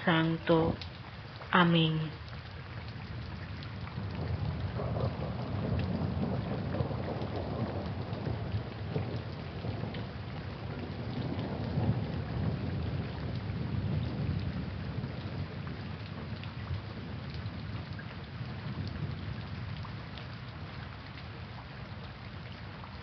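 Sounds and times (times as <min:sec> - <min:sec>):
steady rain: 0:00.0 - 0:23.0
rolling thunder rumble: 0:02.8 - 0:23.0.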